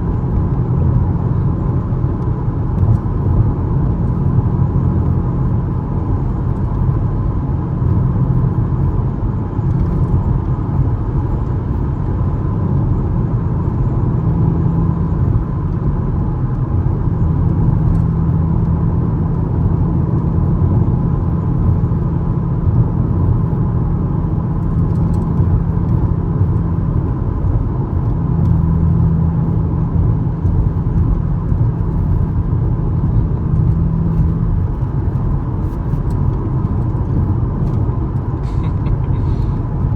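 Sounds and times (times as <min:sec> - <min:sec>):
car engine drone: 0:00.0 - 0:39.9
road rumble: 0:00.0 - 0:39.9.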